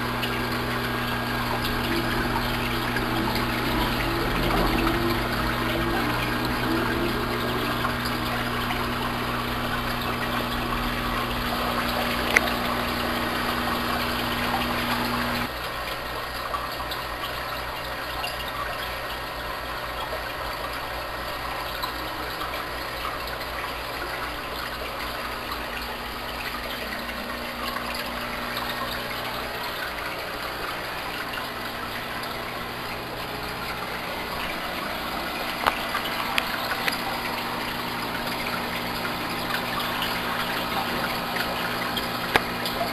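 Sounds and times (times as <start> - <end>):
air pumps humming: 0.0 - 15.5, 22.7 - 42.9
water bubbling and splashing: 0.0 - 42.9.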